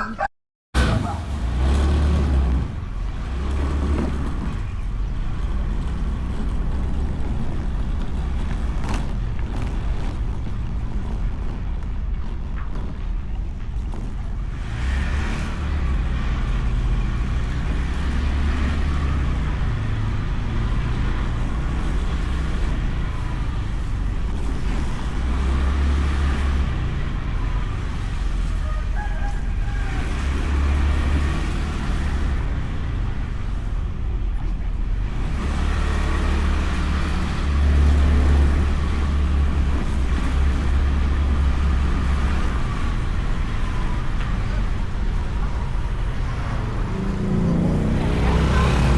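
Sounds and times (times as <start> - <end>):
tyre and road noise: 0.0 - 48.9
low wind rumble on microphone: 0.8 - 48.9
scooter engine: 0.8 - 48.9.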